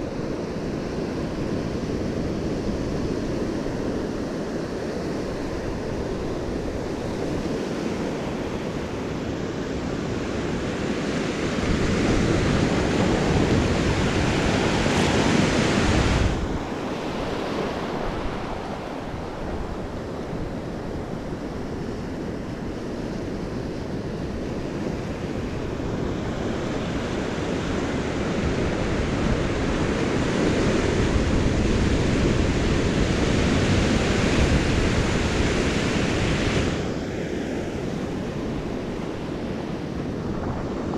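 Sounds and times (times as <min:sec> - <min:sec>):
ocean surf breaking on sand: 0:00.0 - 0:40.9
wind rumbling on microphone: 0:00.0 - 0:40.9.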